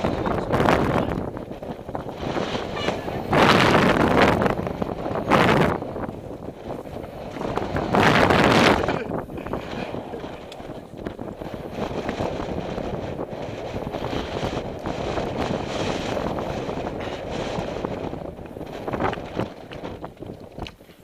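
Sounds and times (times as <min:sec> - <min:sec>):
mountain bike rumble and rattle: 0:00.0 - 0:21.0
wind buffeting microphone: 0:00.0 - 0:21.0.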